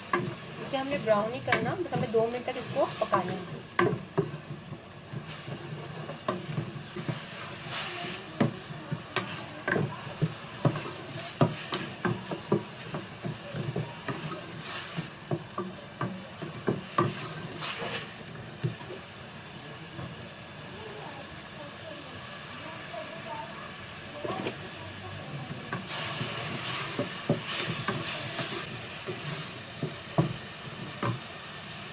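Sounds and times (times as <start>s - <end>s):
onions sizzling in hot oil: 0.0s - 31.9s.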